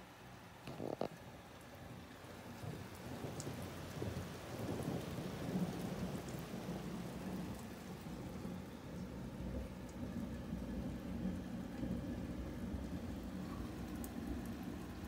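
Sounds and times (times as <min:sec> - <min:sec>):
rain falling: 0:00.0 - 0:15.0
rolling thunder: 0:02.5 - 0:15.0.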